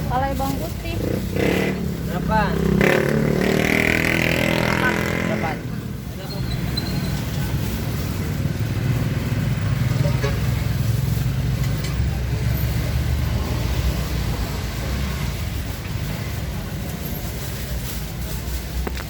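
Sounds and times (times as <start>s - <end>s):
vehicle engine rumble: 0.0s - 19.0s.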